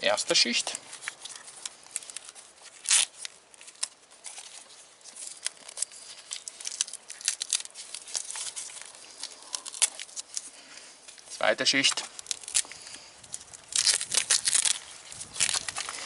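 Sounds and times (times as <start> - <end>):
adhesive tape peeling: 0.8 - 16.0.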